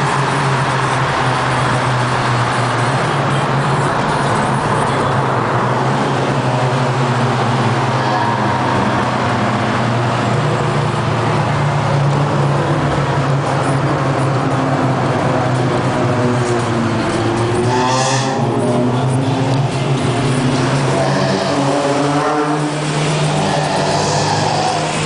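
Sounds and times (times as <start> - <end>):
car engine driving: 0.0 - 25.0.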